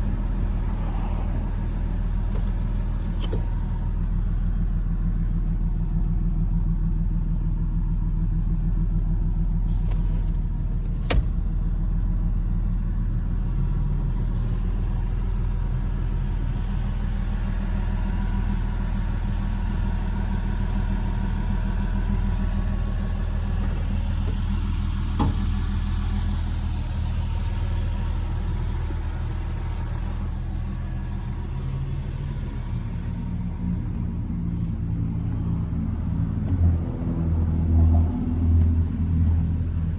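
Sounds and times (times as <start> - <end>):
car engine idling: 0.0 - 36.6.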